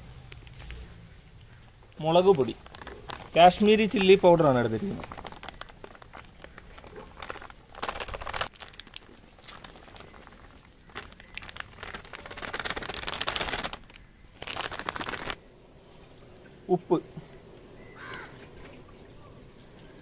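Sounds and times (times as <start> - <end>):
spices crackling in hot oil: 0.0 - 16.2.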